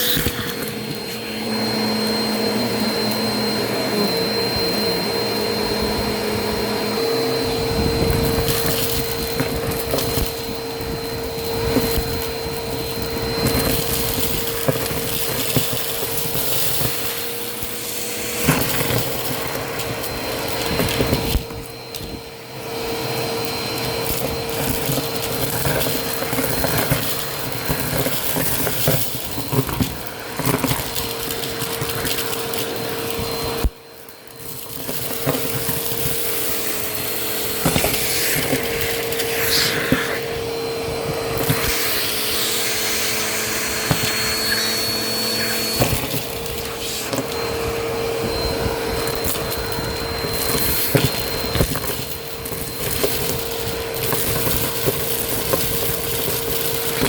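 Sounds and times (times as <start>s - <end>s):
debris crackling up vacuum nozzle: 0.0s - 57.0s
vacuum cleaner running: 0.0s - 57.0s.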